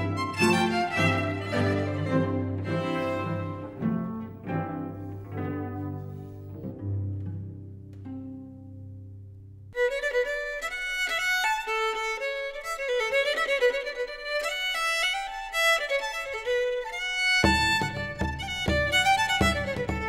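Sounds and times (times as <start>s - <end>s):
fiddle-like string melody: 0.0s - 20.0s.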